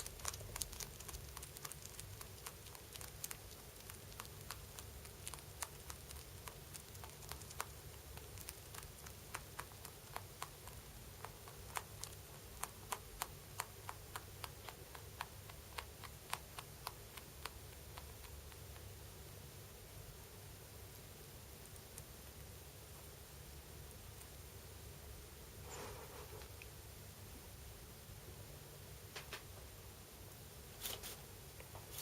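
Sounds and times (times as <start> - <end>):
rabbit chewing: 0.0 - 32.0.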